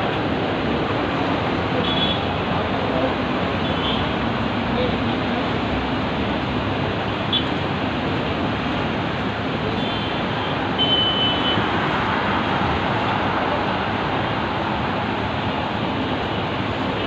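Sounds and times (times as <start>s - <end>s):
slow city road traffic: 0.0s - 17.0s.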